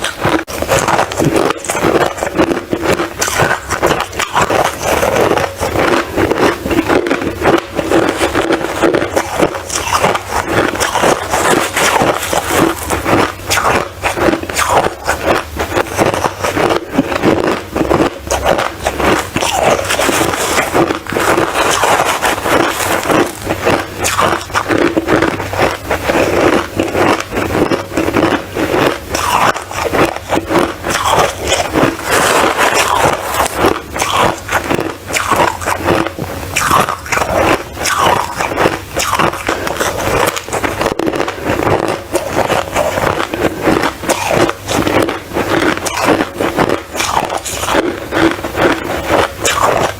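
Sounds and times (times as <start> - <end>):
crunching and scraping: 0.0 - 49.9.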